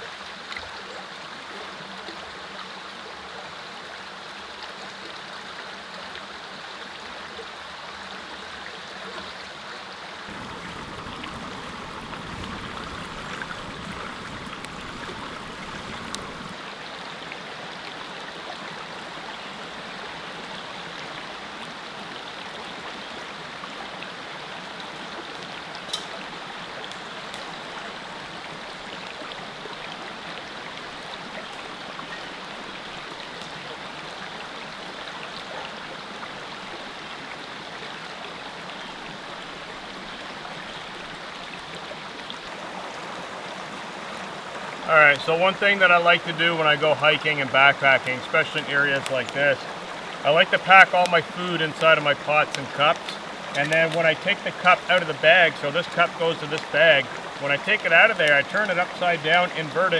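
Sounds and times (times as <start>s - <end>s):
mountain creek running: 0.0s - 59.9s.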